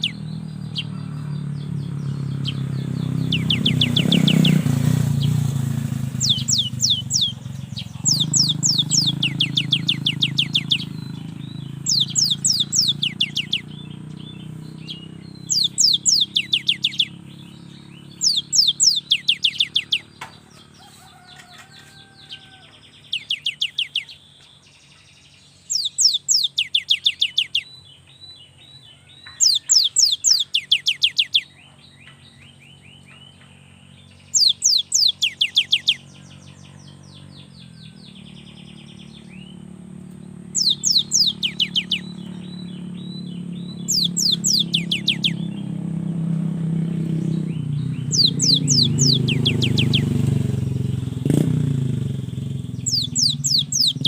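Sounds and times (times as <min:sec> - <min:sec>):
bird singing high rapid notes: 0:00.0 - 0:54.0
low engine hum: 0:00.0 - 0:54.0
soft bird chirps: 0:00.0 - 0:54.0.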